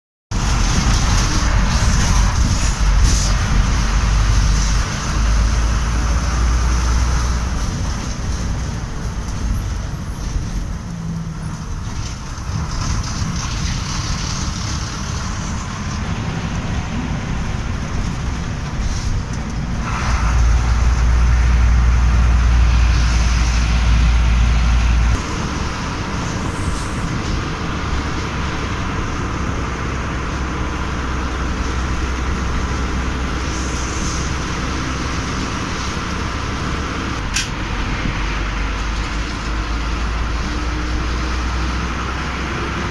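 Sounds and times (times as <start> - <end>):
vehicle engine and road noise: 0.3 - 42.9.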